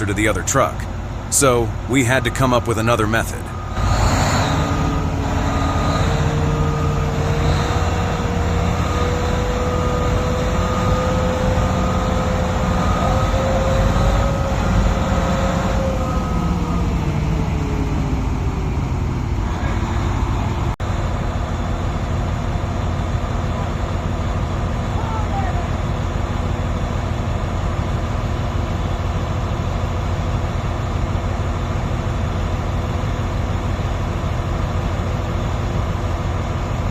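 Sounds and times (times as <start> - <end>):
diesel machinery rumble with whine: 0.0 - 36.9.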